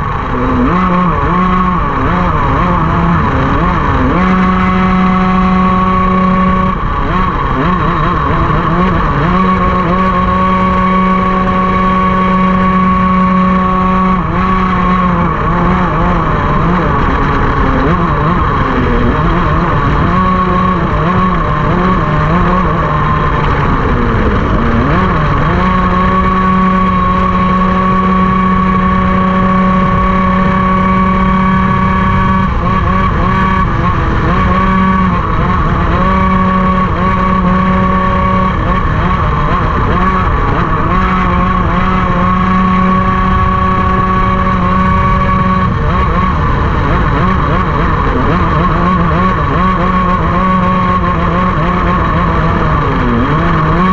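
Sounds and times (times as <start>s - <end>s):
racing kart engine at high revs: 0.0s - 53.9s.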